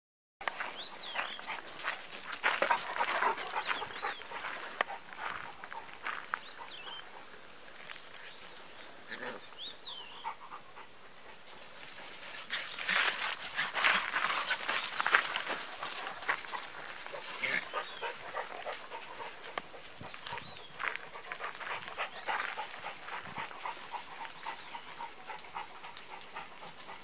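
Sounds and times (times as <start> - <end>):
paws scuffling on gravel: 0.4 - 10.2, 11.2 - 27.0
puppies panting: 0.5 - 27.0.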